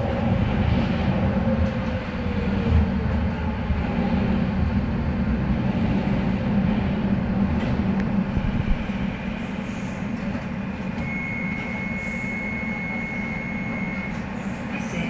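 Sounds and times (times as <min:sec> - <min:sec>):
train wheels rumbling on track: 0:00.0 - 0:15.0
train whine: 0:00.0 - 0:15.0.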